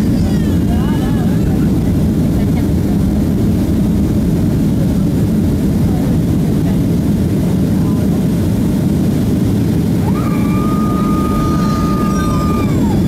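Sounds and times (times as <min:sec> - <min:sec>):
jet engine drone in cabin: 0:00.0 - 0:13.0
rushing airflow: 0:00.0 - 0:13.0.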